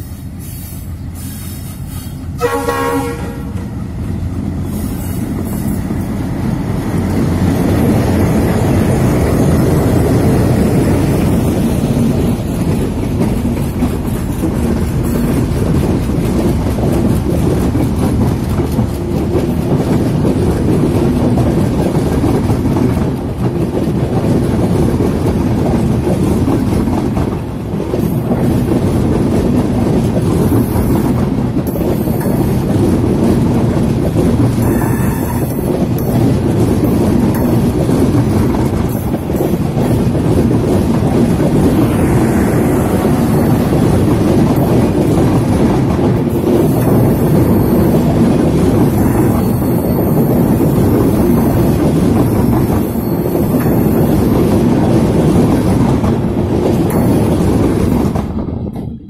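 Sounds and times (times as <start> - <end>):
diesel locomotive passing: 0.0 - 59.0
train coaches rumbling: 0.0 - 59.0
wheels clattering over rails: 2.4 - 59.0.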